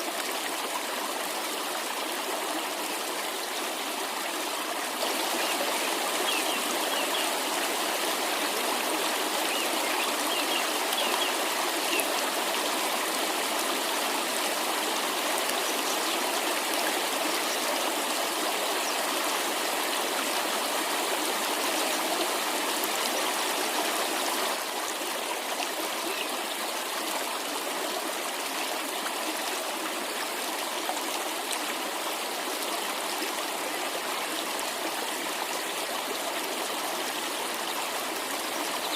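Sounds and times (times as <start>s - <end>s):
stream water rushing and splashing: 0.0s - 38.9s.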